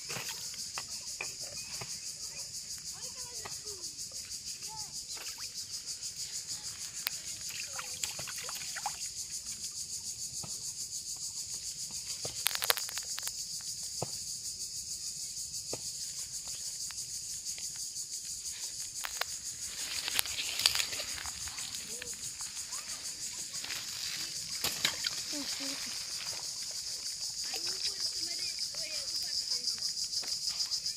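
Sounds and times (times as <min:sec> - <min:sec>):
insect chorus pulsing: 0:00.0 - 0:30.9.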